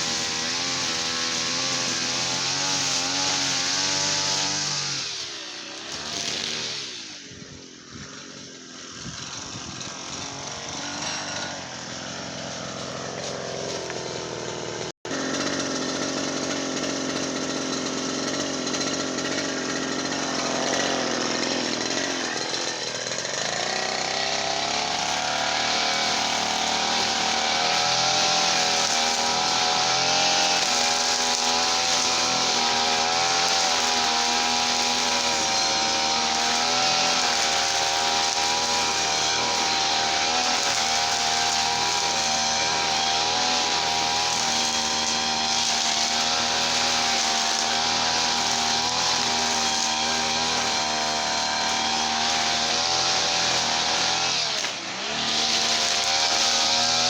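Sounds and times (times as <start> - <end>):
small two-stroke engine running: 0.0 - 57.0.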